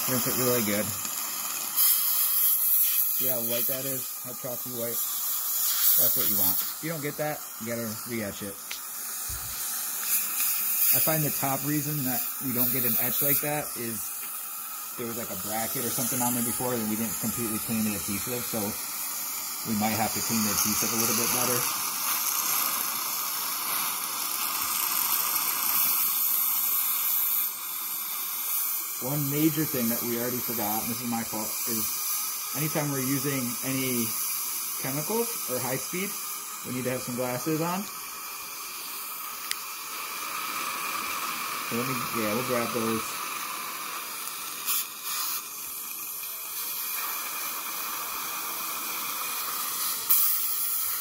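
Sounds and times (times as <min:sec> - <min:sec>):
air syringe blasts: 0:00.0 - 0:51.0
dental suction hissing: 0:00.0 - 0:51.0.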